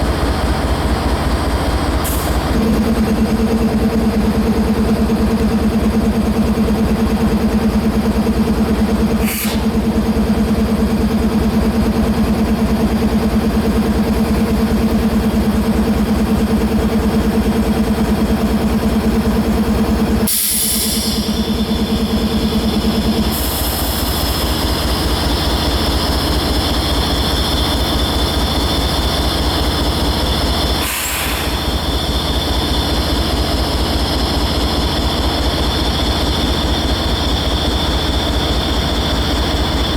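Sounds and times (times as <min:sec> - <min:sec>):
heavy engine rumbling: 0:00.0 - 0:39.9.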